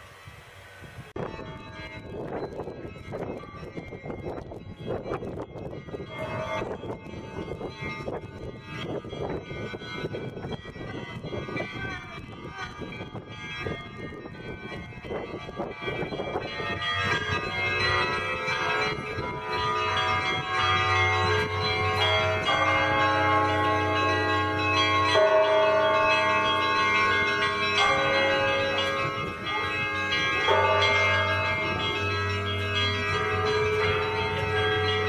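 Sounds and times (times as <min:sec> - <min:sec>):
bells ringing: 0:01.2 - 0:35.0.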